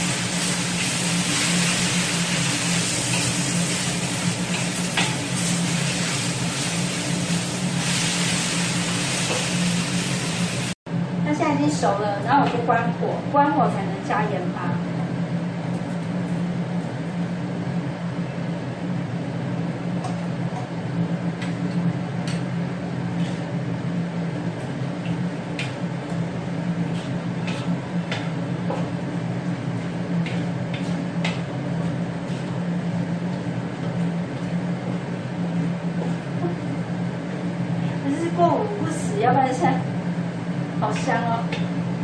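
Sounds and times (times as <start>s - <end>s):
range hood exhaust fan hum: 0.0s - 42.0s.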